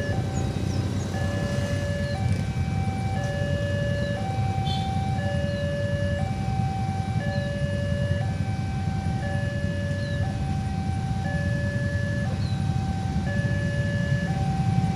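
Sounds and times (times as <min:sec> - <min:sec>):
low engine rumble: 0:00.0 - 0:14.9
two-tone electronic warning alarm: 0:00.0 - 0:14.9.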